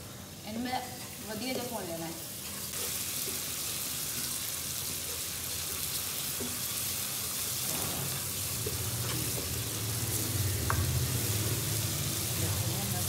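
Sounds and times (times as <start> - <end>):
spices frying hiss: 0.0 - 13.0.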